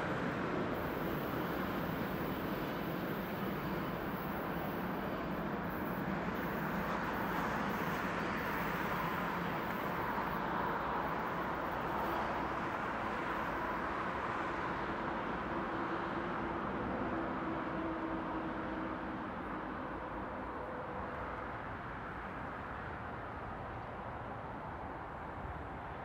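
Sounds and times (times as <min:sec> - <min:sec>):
distant trains rolling: 0:00.0 - 0:21.4.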